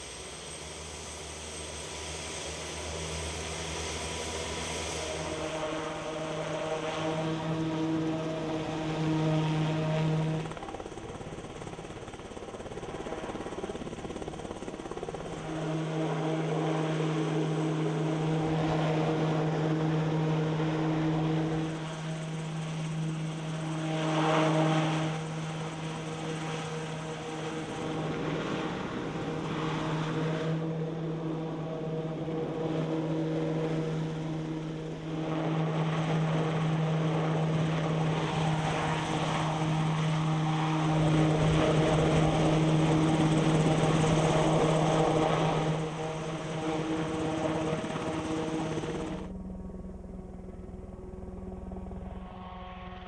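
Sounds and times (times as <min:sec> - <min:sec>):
helicopter flying: 0:00.0 - 0:53.0.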